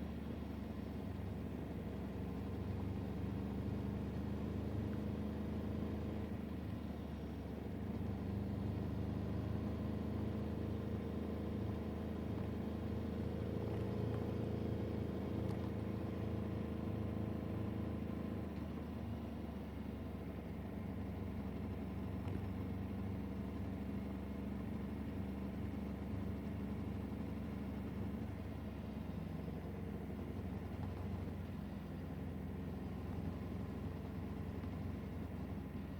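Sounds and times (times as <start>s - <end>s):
vehicle engine running: 0.0s - 35.9s.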